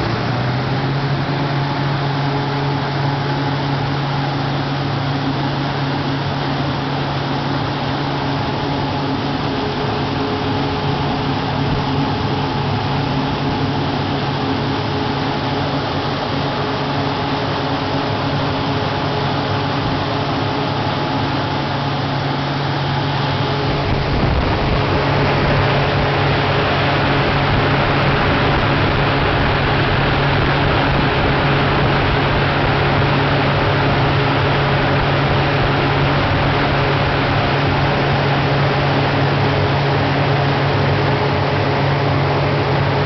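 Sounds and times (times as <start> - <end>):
large fan blowing air: 0.0 - 43.0.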